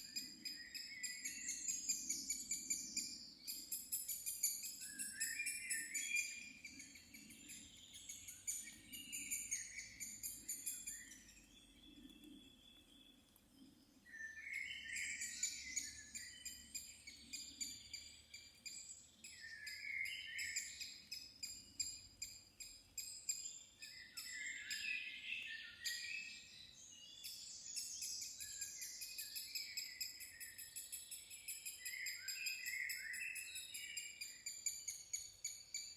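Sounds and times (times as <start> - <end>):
birds singing: 0.0 - 35.9.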